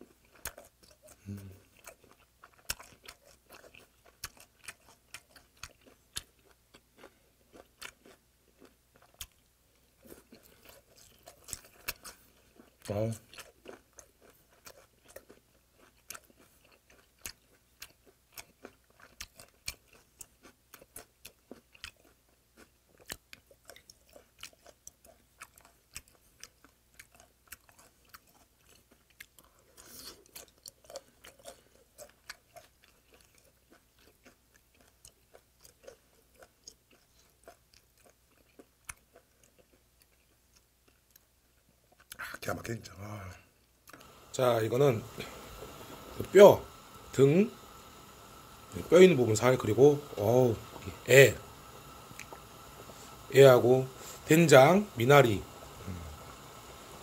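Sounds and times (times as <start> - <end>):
wet crunchy chewing: 0.0 - 42.5, 43.8 - 57.0.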